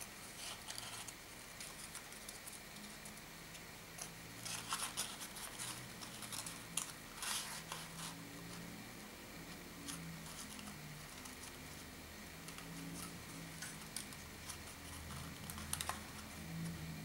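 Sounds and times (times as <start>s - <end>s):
paper rustling and crinkling: 0.2s - 3.2s, 4.4s - 8.6s, 9.8s - 16.7s.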